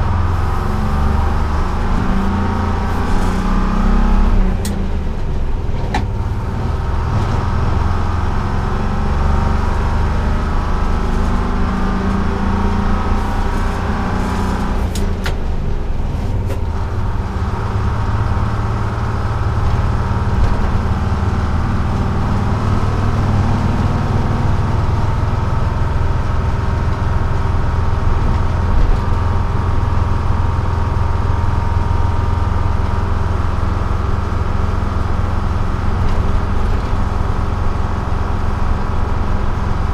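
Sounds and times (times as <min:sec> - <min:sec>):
diesel bus engine running: 0:00.0 - 0:39.9
road noise: 0:00.0 - 0:39.9.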